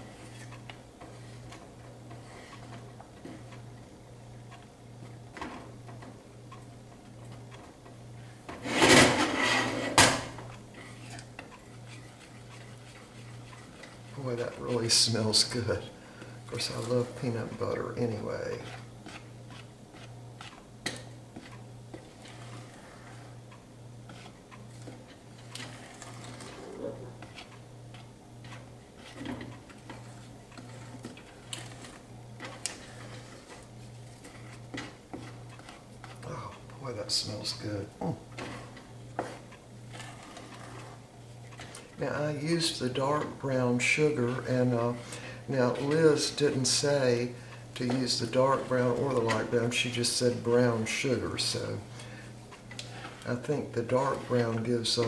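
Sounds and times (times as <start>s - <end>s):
saucepan scraping on burner: 0.0s - 3.6s, 8.2s - 55.0s
wooden spoon stirring thick mixture: 0.0s - 8.7s, 10.4s - 55.0s.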